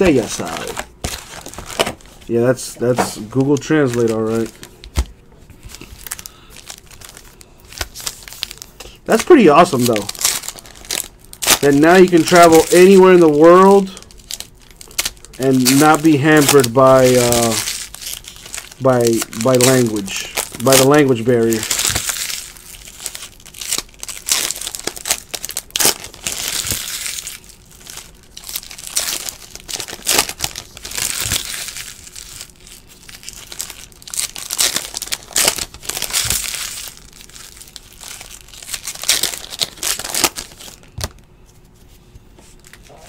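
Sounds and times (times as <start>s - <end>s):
foil wrappers crinkling and tearing: 0.0s - 41.7s.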